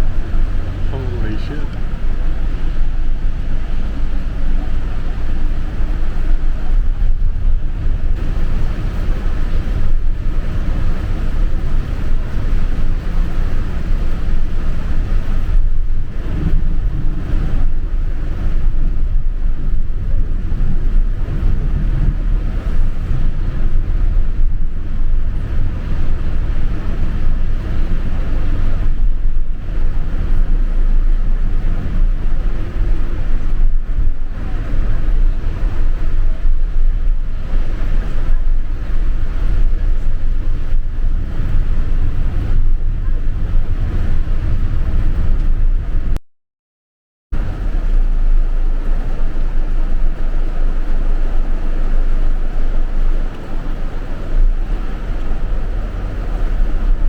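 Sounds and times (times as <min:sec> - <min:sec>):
bus engine rumble: 0:00.0 - 0:46.2, 0:47.3 - 0:57.0
road noise: 0:00.0 - 0:46.2, 0:47.3 - 0:57.0
wind-like noise: 0:00.0 - 0:46.2, 0:47.4 - 0:57.0.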